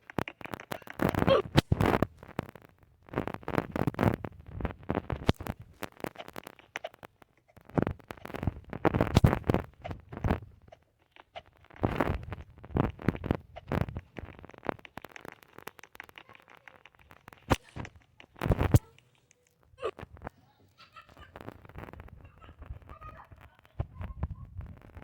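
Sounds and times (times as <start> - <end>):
scratchy rustling and crackling: 0.0 - 25.0.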